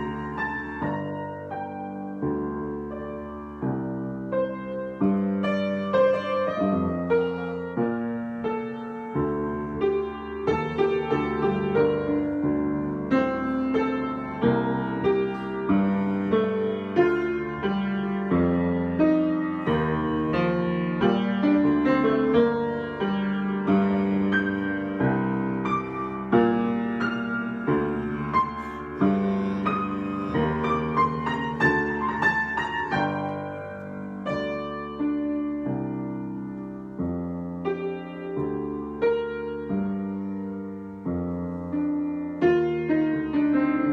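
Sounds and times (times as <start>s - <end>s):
solo piano: 0.0s - 43.9s.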